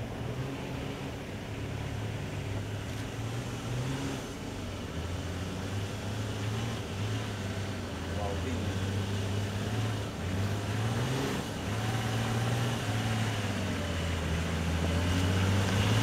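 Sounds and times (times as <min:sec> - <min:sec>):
off-road vehicle engine under load: 0:00.0 - 0:16.0.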